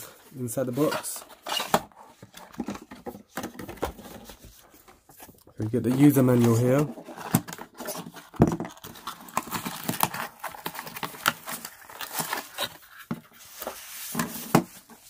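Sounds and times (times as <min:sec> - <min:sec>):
cardboard and foam rustling: 0:00.0 - 0:15.0.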